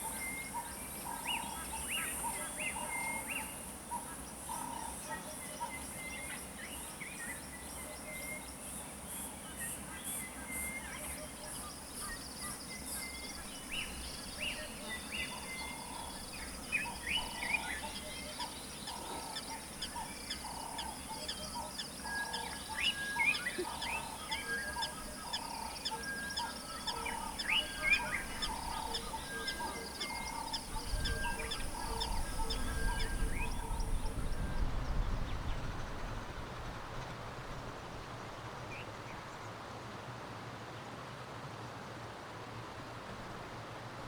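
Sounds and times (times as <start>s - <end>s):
wild birds chirping: 0.0s - 35.4s.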